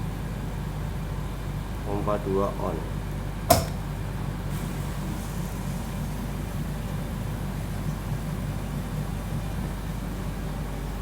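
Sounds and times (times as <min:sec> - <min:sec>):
fan and pumps humming: 0:00.0 - 0:11.0.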